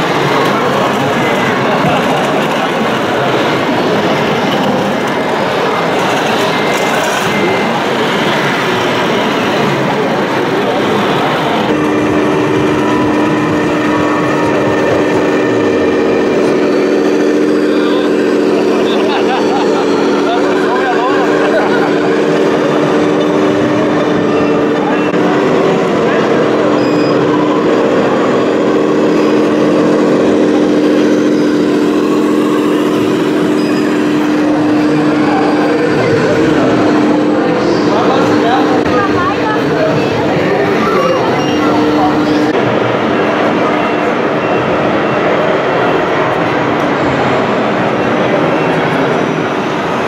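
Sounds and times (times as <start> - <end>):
busy hall noise: 0.0 - 50.0.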